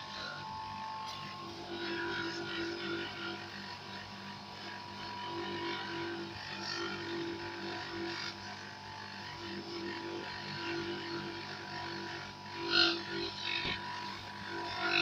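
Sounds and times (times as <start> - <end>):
polishing lathe motor hum: 0.0 - 15.0.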